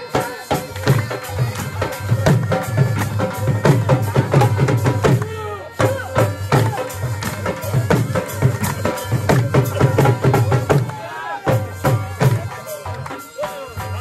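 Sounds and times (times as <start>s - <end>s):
drum beating quick rhythm: 0.0s - 14.0s
reed pipe melody: 0.0s - 14.0s.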